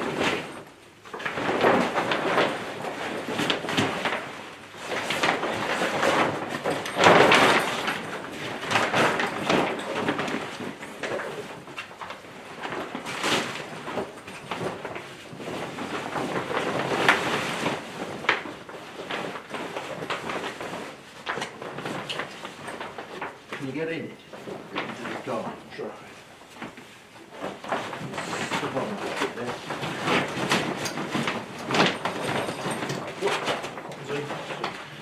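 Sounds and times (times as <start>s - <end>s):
fabric rustling and scraping: 0.0s - 35.0s.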